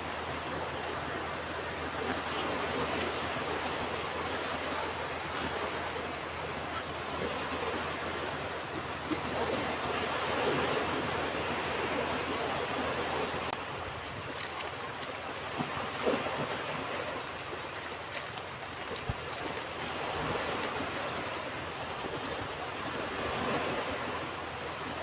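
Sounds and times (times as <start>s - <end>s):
ocean waves washing on beach: 0.0s - 25.0s.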